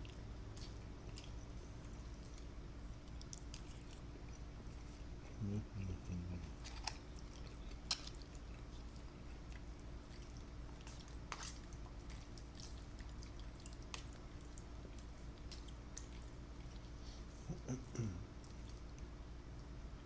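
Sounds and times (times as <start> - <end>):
person chewing: 0.0 - 19.1
faint steady hum: 0.0 - 20.0.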